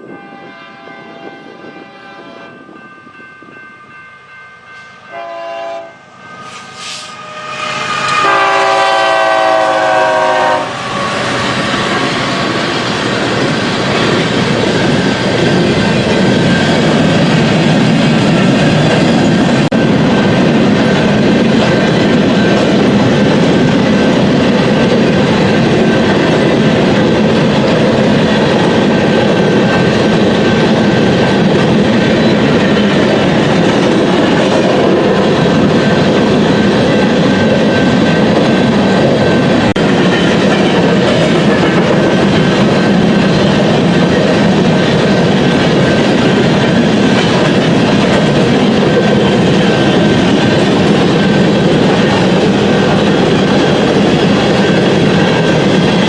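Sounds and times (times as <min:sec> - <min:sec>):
freight train wheels clacking: 0:06.7 - 0:56.0.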